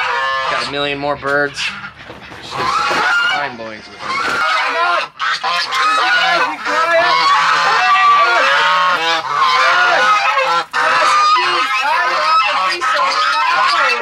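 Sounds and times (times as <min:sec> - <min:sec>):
geese honking: 0:00.0 - 0:14.0
poultry calling: 0:00.0 - 0:14.0.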